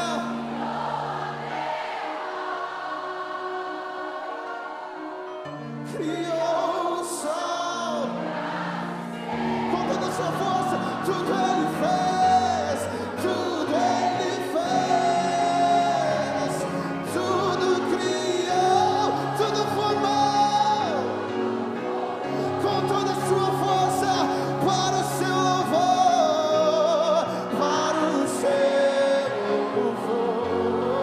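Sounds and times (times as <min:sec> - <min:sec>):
band with keyboard: 0:00.0 - 0:31.0
voices singing held notes: 0:00.0 - 0:31.0.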